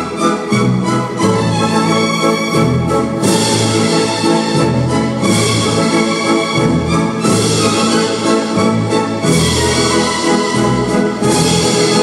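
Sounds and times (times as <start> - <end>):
instrumental polonaise music: 0.0 - 12.0.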